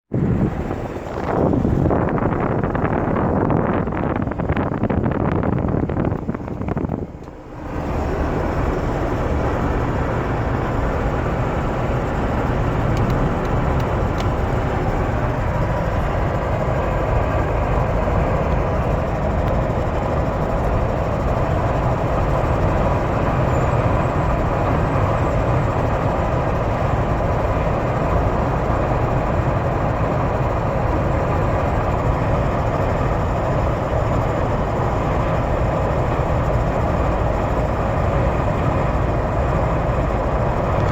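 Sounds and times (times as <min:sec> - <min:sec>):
road and wind noise in car: 0:00.1 - 0:40.9.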